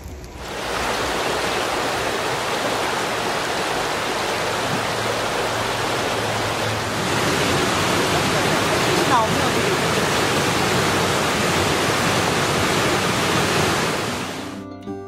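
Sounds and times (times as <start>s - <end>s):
creek running over rocks: 0.4s - 14.4s.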